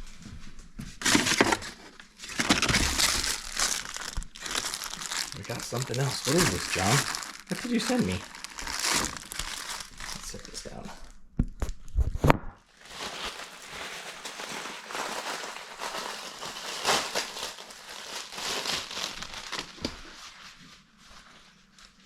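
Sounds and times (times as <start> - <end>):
packaging crinkling and rustling: 1.0 - 20.6.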